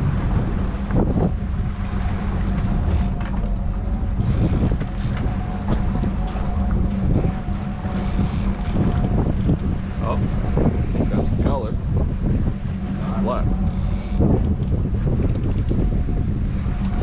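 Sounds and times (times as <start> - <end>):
boat engine low drone: 0.0 - 17.0
thin steady whine: 0.0 - 17.0
wind buffeting microphone: 0.0 - 17.0.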